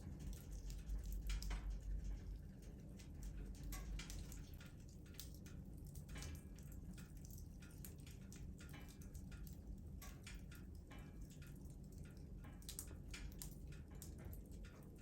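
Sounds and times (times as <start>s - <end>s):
low rumble of flames: 0.0s - 15.0s
wood fire crackling: 1.2s - 8.9s, 9.5s - 15.0s.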